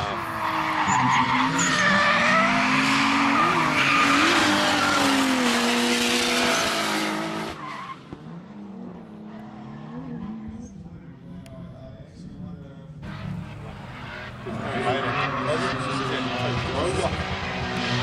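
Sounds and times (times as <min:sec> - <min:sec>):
car engines revving hard: 0:00.0 - 0:10.8, 0:13.0 - 0:18.0
spinning tyres screeching: 0:00.0 - 0:10.8, 0:13.0 - 0:18.0.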